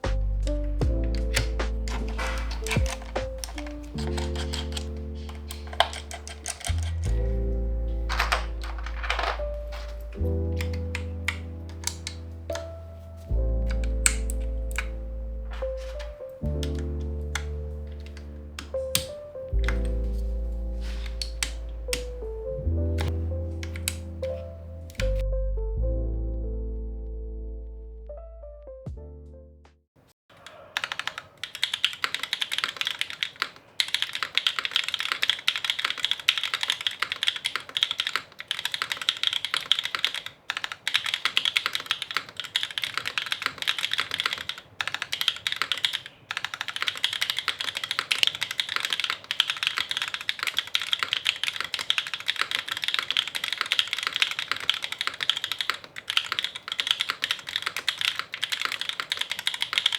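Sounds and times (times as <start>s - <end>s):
mechanical keyboard typing: 0.8s - 12.7s, 13.5s - 20.1s, 20.8s - 22.3s, 23.0s - 25.2s, 30.4s - 59.9s.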